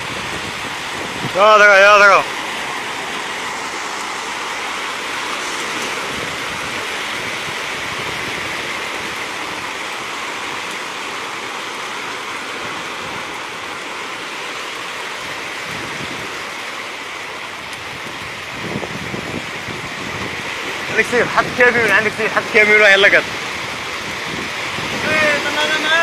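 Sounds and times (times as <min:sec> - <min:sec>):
sea surf washing on beach: 0:00.0 - 0:26.0.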